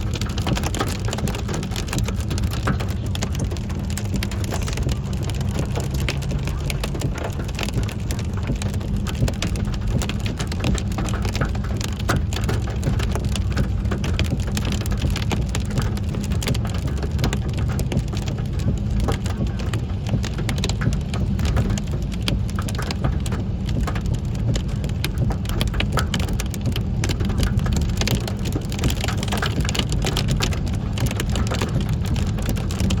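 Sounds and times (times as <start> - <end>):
hail and heavy rain pelting: 0.0 - 33.0
steady low rumble: 0.0 - 33.0.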